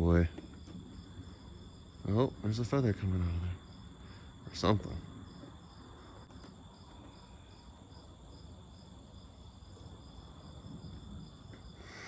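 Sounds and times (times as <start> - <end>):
faint cricket chirping: 0.0 - 12.0.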